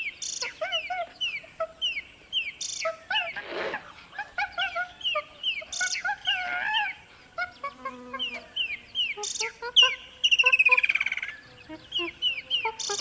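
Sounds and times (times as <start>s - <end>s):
birds chirping and clucking: 0.0s - 13.0s
high buzzy bird notes: 0.0s - 13.0s.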